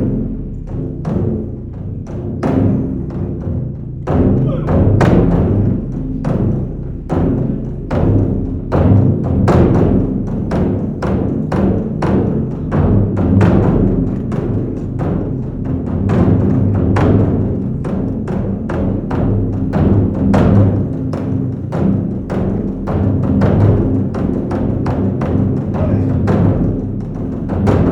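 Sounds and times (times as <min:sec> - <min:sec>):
drums struck in steady beat: 0:00.0 - 0:27.9.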